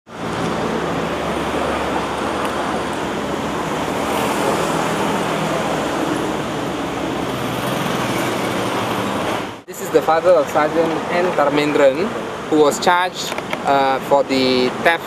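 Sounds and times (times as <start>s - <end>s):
road traffic noise: 0.1s - 15.0s.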